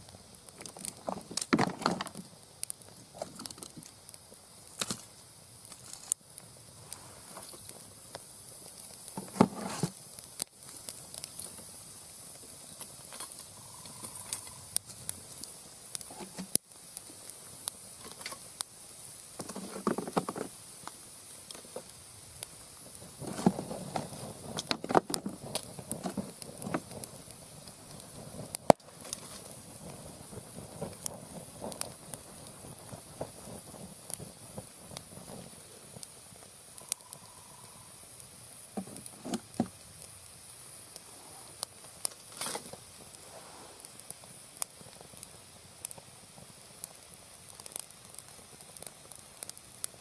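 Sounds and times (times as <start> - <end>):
campfire crackling and popping: 0.0 - 50.0
fire hissing: 0.0 - 50.0.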